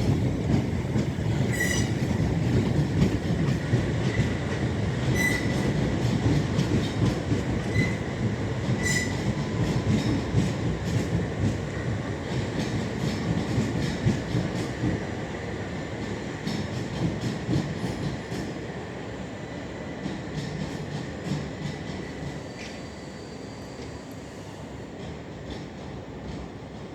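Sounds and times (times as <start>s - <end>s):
train wheels rumbling on track: 0.0s - 26.9s.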